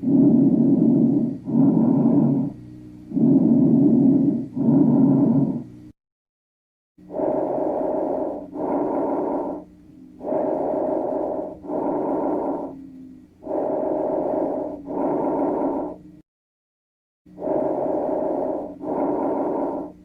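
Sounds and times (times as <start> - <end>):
soft breathing through stethoscope: 0.0 - 5.7, 7.0 - 16.2, 17.3 - 20.0.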